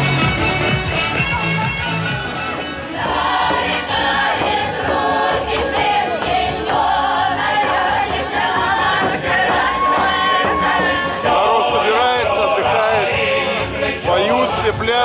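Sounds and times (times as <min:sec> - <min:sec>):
musical accompaniment: 0:00.0 - 0:15.0
choir singing: 0:02.9 - 0:15.0.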